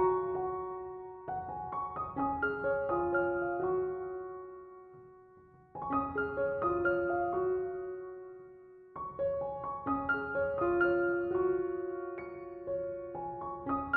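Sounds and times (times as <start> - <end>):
soft piano music: 0.0 - 13.9.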